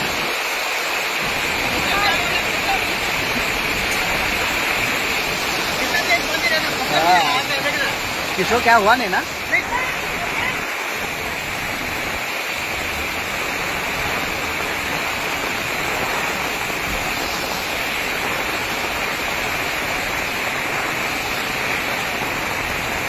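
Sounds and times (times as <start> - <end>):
heavy rain pouring: 0.0 - 23.0
rainwater running across street: 0.0 - 23.0.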